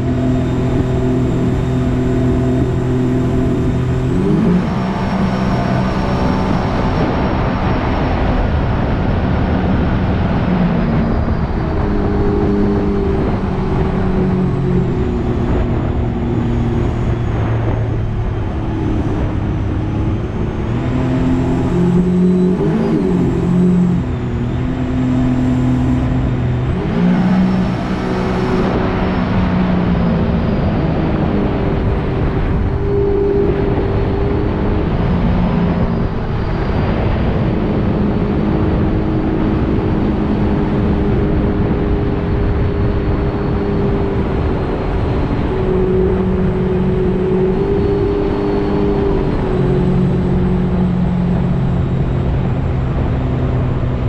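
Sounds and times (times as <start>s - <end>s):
jet boat engine running: 0.0s - 54.0s
wind: 0.0s - 54.0s.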